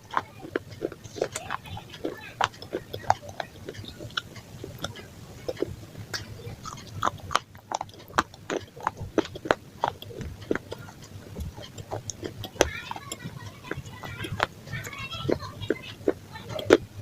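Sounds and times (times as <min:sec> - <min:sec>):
person biting and chewing: 0:00.0 - 0:14.7
mouth clicks and smacks: 0:00.0 - 0:17.0.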